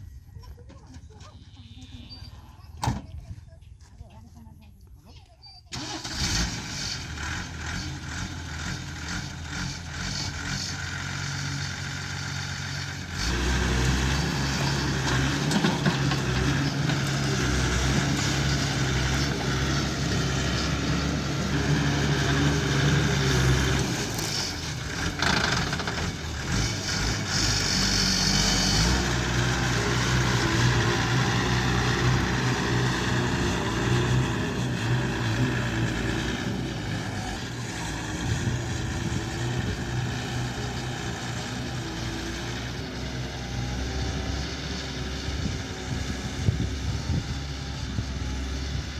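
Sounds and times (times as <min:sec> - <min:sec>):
heavy machinery diesel engine: 0:05.7 - 0:48.9.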